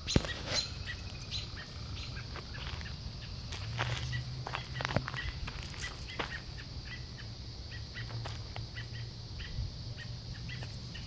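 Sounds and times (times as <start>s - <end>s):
songbird alarm calls: 0.0s - 3.4s, 4.1s - 11.0s.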